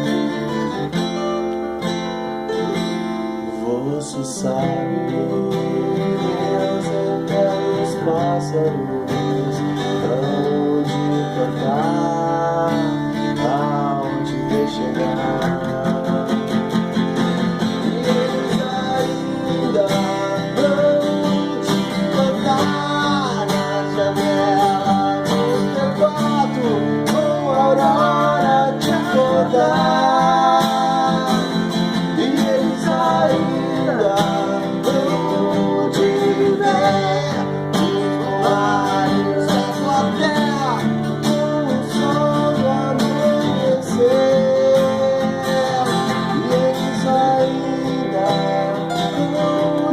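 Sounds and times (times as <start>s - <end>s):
acoustic guitar playing: 0.0s - 49.9s.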